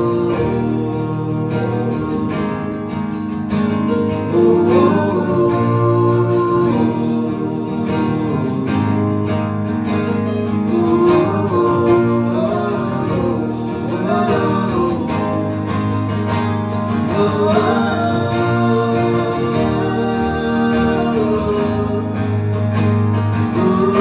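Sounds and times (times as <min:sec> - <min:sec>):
person singing: 0:00.0 - 0:02.7, 0:04.1 - 0:09.2, 0:10.4 - 0:24.0
acoustic guitars strummed: 0:00.0 - 0:24.0
keyboard: 0:00.0 - 0:24.0.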